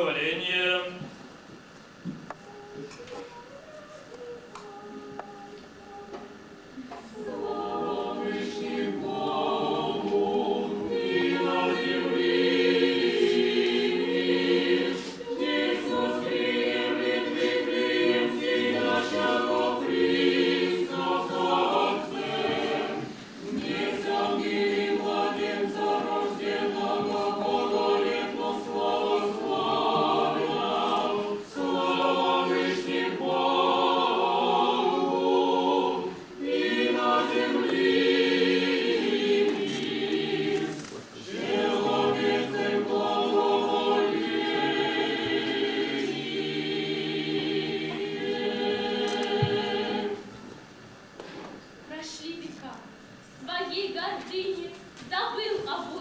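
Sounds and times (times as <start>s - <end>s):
choir singing a hymn: 4.2s - 51.5s.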